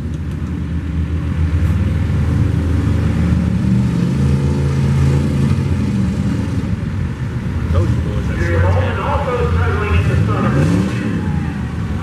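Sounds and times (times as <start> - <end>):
truck engine labouring under load: 0.0 - 12.0.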